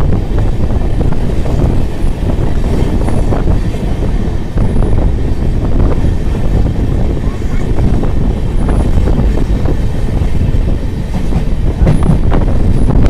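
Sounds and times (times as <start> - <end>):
train wheels rattling on rails: 0.0 - 13.0.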